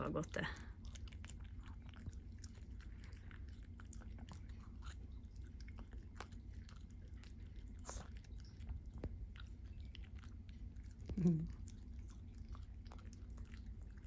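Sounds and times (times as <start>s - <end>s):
dog chewing treats: 0.0s - 14.0s.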